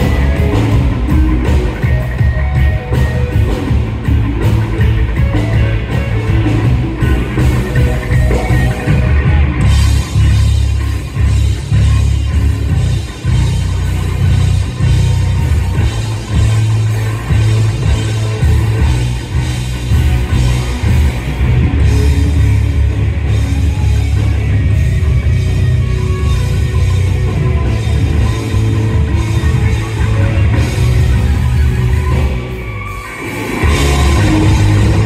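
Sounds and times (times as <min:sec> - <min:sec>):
rock band playing heavy music: 0:00.0 - 0:35.0.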